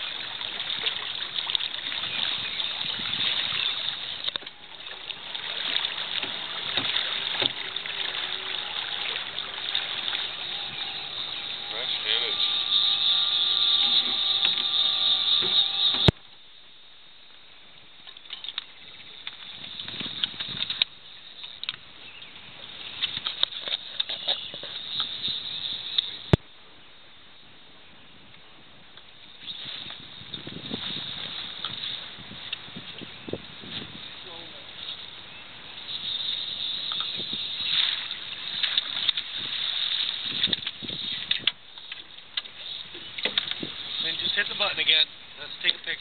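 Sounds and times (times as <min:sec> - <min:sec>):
water splashing against boat: 0:00.0 - 0:16.4, 0:18.0 - 0:26.5, 0:28.9 - 0:46.0.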